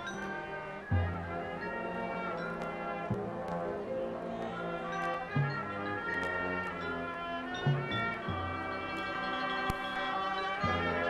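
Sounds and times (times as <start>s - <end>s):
brass sustained chords: 0.0s - 11.0s
marching band playing: 0.0s - 11.0s.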